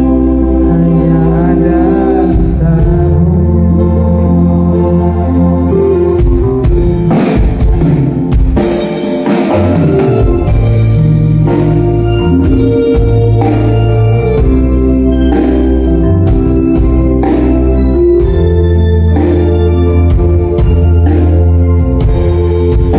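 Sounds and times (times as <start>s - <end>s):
bass: 0.0s - 22.9s
organ-like keyboard chords: 0.0s - 22.9s.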